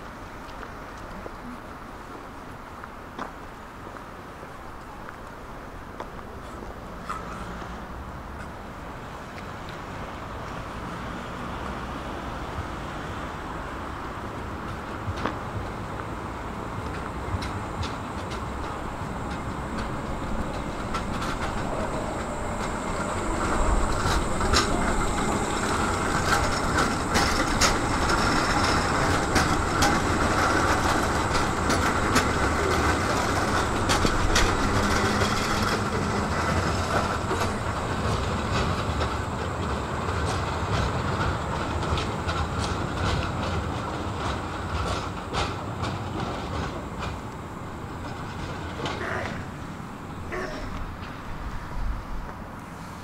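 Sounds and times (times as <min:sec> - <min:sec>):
tram rumbling on rails: 0:00.0 - 0:53.0
wheels clicking on track: 0:00.0 - 0:53.0.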